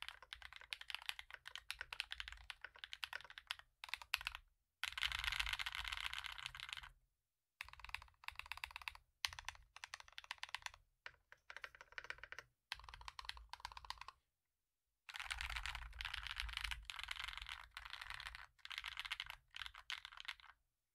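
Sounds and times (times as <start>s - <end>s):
typing on mechanical keyboard: 0.0s - 7.0s, 7.6s - 14.2s, 15.1s - 20.6s.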